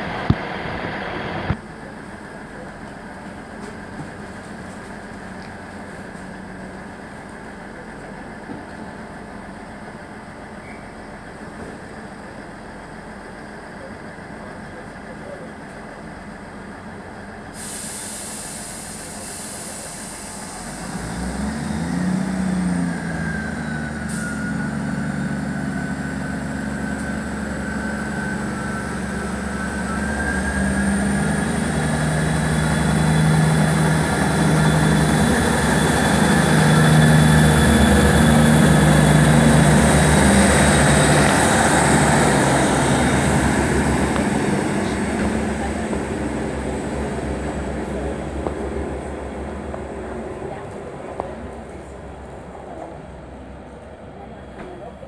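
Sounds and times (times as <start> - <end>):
diesel train engines droning: 0.0 - 55.0.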